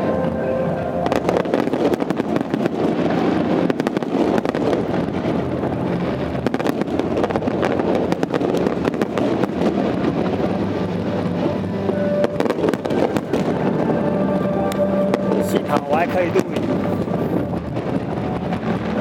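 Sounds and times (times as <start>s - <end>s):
continuous rumble: 0.0s - 19.0s
fireworks cracking and popping: 0.0s - 19.0s.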